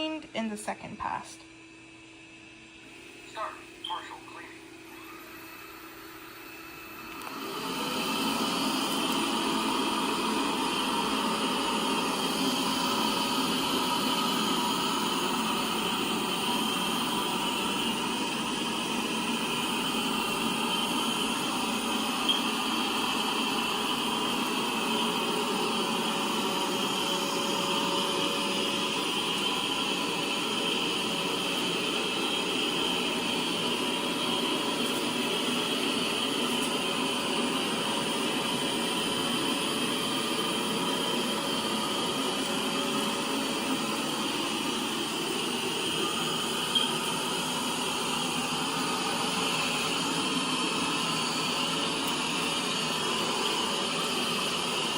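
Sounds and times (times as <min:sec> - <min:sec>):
robot vacuum running: 0:05.0 - 0:54.9.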